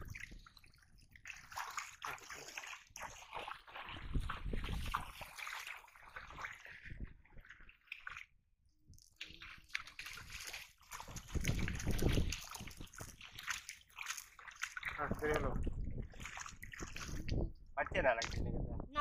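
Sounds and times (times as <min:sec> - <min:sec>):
fish splashing in water: 0:00.0 - 0:08.3, 0:08.9 - 0:17.4.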